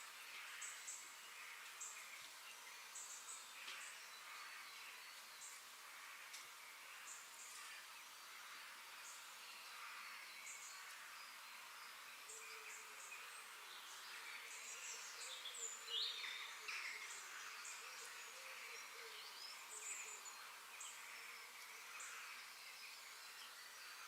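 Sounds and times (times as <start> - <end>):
ambient nature hiss: 0.0 - 24.0
wild birds chirping: 0.0 - 24.0.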